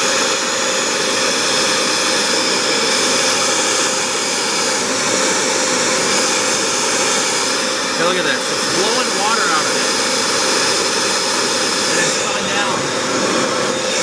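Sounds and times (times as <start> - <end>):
floor cleaner suction motor whoosh: 0.0 - 14.0.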